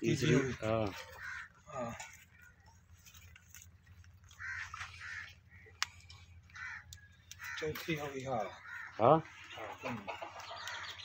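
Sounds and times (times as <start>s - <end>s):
low steady hum: 0.0s - 11.0s
harsh animal calls: 0.4s - 2.6s, 4.2s - 11.0s.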